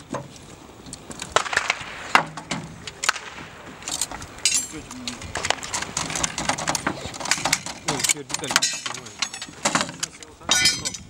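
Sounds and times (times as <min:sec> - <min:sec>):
metallic rattle: 0:01.4 - 0:11.0.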